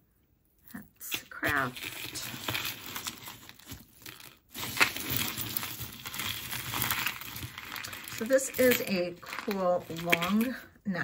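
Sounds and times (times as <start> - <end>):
jewelry packaging crinkling: 1.0 - 10.8.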